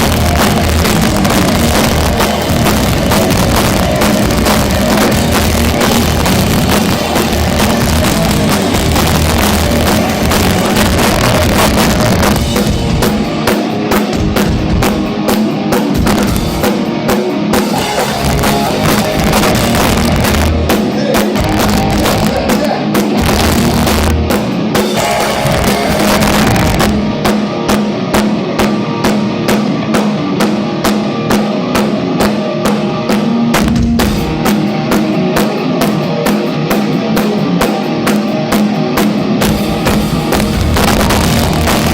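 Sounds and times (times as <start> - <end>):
drum kit beat: 0.0 - 41.9
rock band playing live: 0.0 - 41.9.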